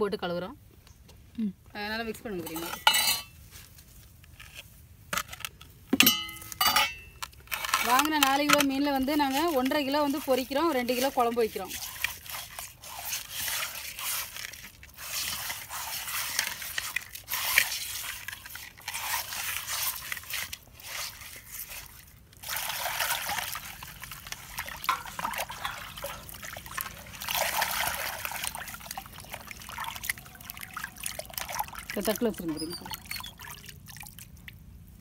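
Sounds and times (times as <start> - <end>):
water sloshing in clay pot: 2.2 - 3.4, 6.0 - 35.0.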